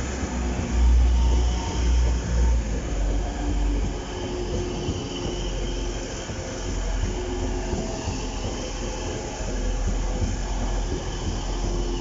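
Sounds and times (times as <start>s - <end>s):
diesel train engines rumbling: 0.0s - 12.0s
train wheels on rails: 0.0s - 12.0s.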